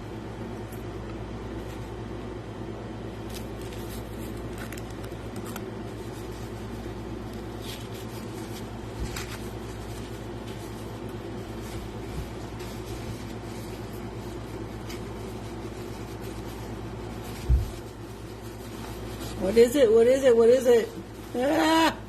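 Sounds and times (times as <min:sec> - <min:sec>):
steady low hum: 0:00.0 - 0:22.0
packing material rustling: 0:03.0 - 0:22.0.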